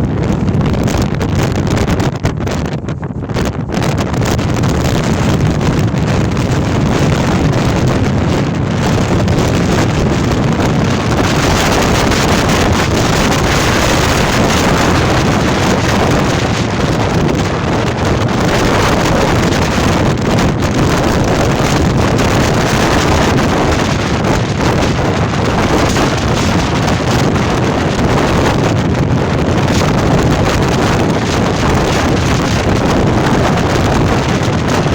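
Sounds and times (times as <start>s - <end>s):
storm wind blowing hard: 0.0s - 34.9s
wind buffeting microphone: 0.0s - 34.9s.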